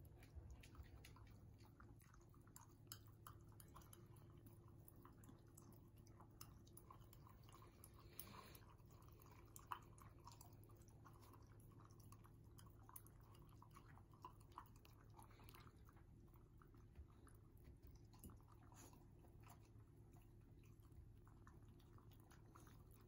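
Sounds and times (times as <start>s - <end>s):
dog chewing and licking: 0.0s - 23.0s.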